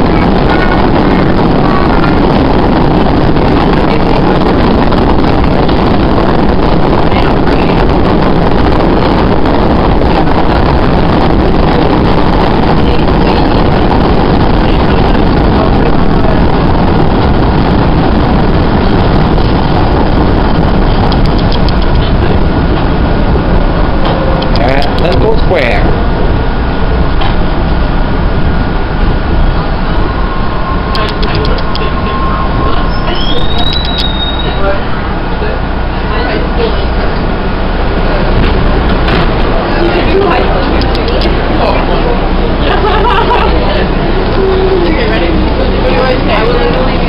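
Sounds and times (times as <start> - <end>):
subway train rumbling in tunnel: 0.0 - 47.0.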